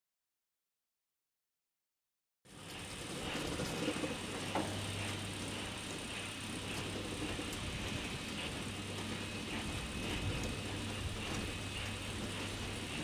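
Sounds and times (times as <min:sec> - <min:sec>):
low rumbling mechanical drone: 0:02.5 - 0:13.0.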